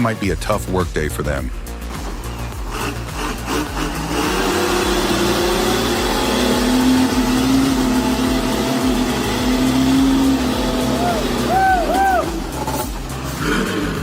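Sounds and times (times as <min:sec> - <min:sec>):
engine running: 0:01.5 - 0:14.0.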